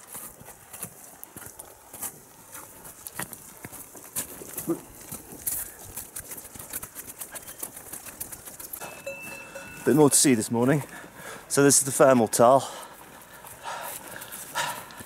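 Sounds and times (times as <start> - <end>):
footsteps on dirt path: 0.0 - 15.0.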